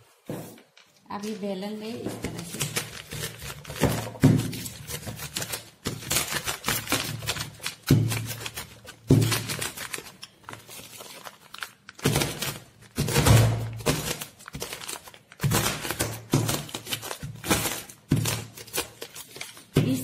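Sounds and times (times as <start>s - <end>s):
rolling pin crushing brittle in bag: 2.2s - 20.0s.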